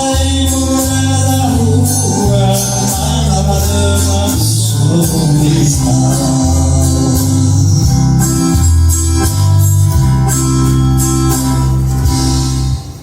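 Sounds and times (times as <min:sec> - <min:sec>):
instrumental music with bass line: 0:00.0 - 0:13.0.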